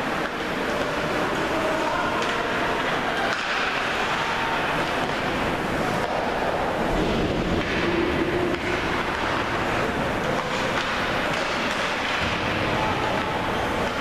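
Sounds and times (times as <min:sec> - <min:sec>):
skates scraping ice: 0:00.0 - 0:14.0.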